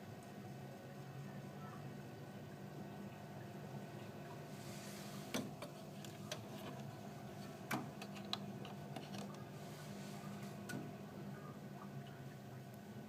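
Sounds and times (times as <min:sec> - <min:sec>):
gas boiler humming: 0:00.0 - 0:13.0.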